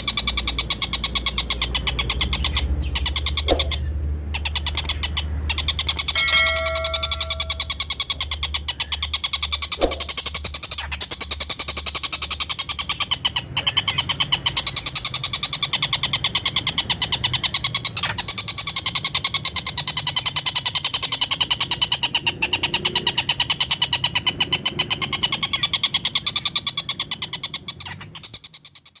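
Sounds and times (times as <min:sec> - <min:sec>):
kingfisher chattering: 0:00.0 - 0:29.0.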